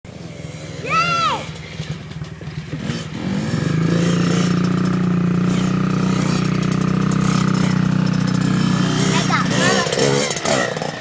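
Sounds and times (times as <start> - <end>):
dirt bike engine running: 0.1 - 11.0.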